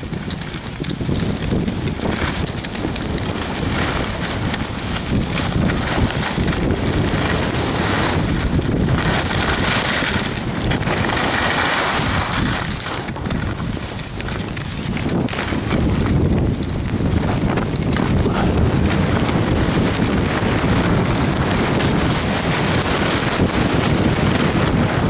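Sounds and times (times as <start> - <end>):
skis sliding over snow: 0.0 - 25.0
wind rushing over microphone: 0.0 - 25.0.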